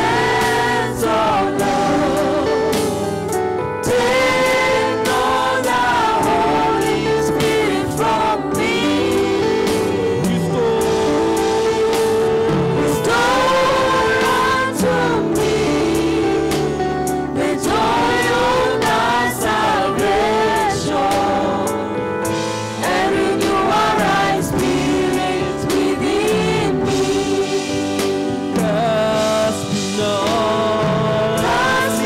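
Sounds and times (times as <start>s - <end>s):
gospel group singing in harmony: 0.0s - 32.0s
instrumental accompaniment: 0.0s - 32.0s.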